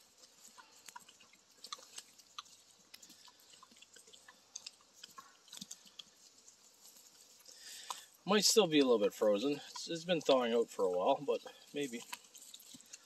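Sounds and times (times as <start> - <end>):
pigs chewing and crunching: 0.0 - 13.0.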